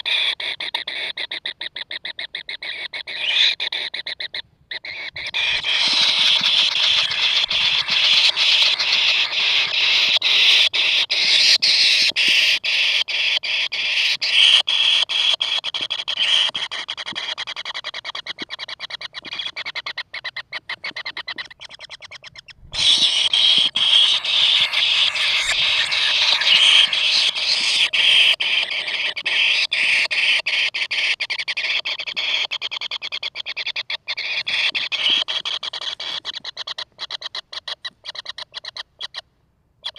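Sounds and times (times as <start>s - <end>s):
nestlings harsh begging calls: 0.0s - 39.2s.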